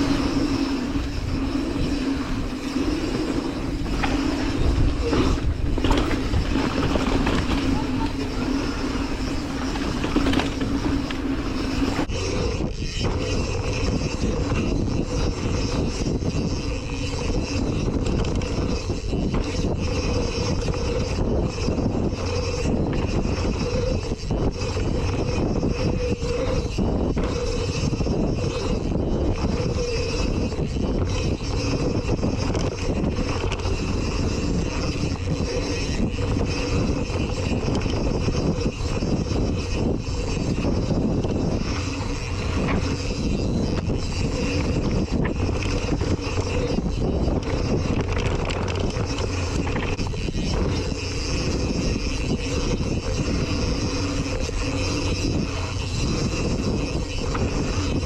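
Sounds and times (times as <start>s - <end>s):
bike tyres rumbling on trail: 0.0s - 58.0s
wind rushing over microphone: 0.0s - 58.0s.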